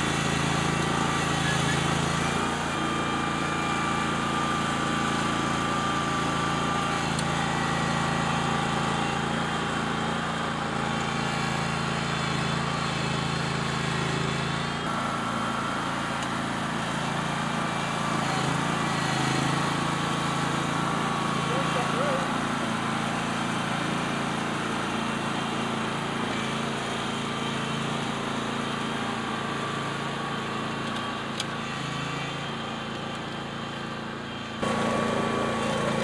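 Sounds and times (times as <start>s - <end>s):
small engine running under load: 0.0s - 36.0s.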